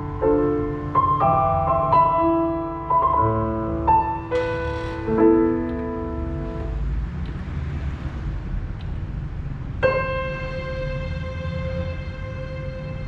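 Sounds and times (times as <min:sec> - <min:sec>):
slow piano notes and chords: 0:00.0 - 0:07.5, 0:09.6 - 0:13.0.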